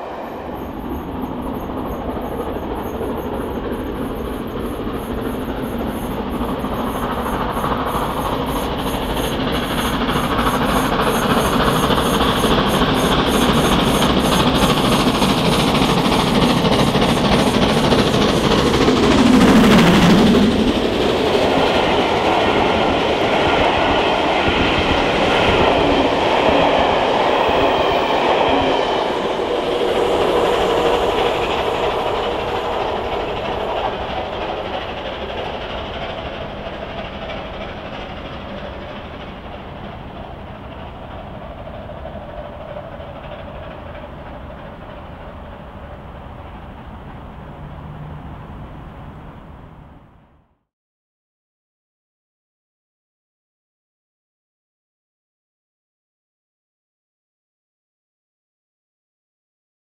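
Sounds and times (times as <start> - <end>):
steam locomotive exhaust: 0.0 - 50.0.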